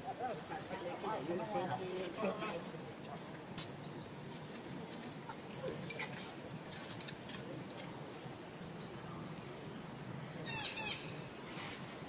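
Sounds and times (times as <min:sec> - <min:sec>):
steady outdoor hum: 0:00.0 - 0:12.0.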